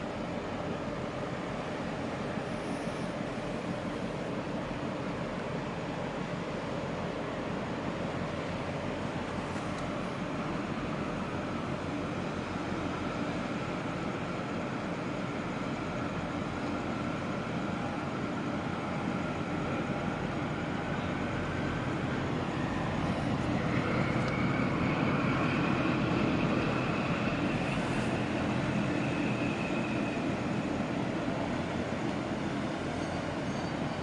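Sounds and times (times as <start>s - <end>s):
faint whine: 0.0s - 34.0s.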